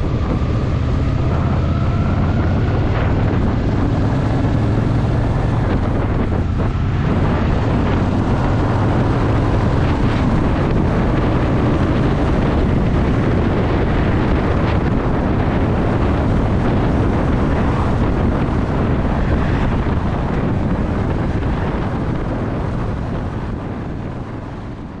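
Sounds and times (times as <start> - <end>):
motorcycle engine running: 0.0 - 25.0
wind buffeting microphone: 0.0 - 25.0.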